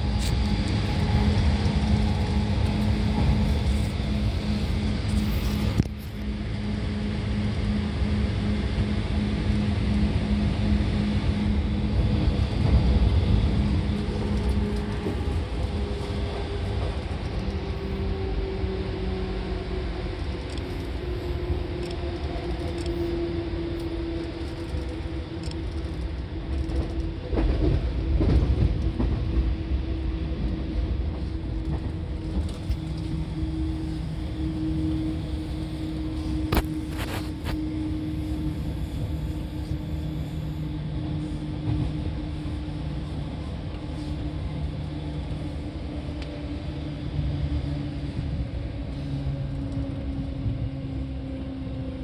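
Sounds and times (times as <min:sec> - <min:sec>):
train motor hum: 0:00.0 - 0:52.0
wheels rumbling on rail: 0:00.0 - 0:52.0.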